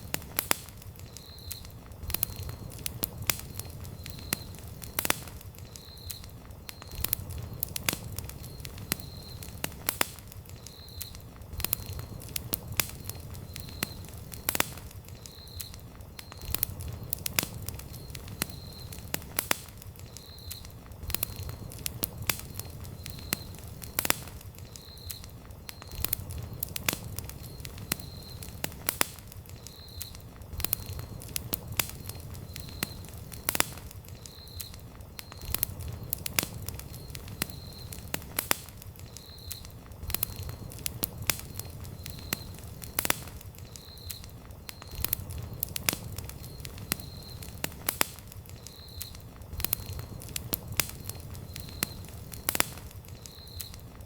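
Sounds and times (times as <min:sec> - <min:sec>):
campfire crackling and popping: 0:00.0 - 0:54.0
flames rumbling: 0:00.0 - 0:54.0.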